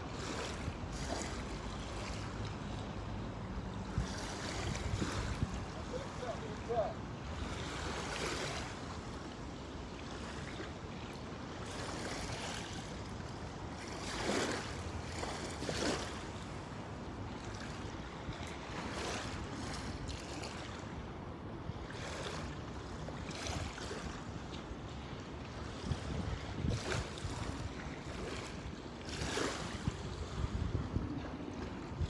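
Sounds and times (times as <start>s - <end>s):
wind on microphone: 0.0s - 17.0s, 21.7s - 32.0s
water lapping in shallows: 0.0s - 32.0s
water swishes: 0.0s - 32.0s.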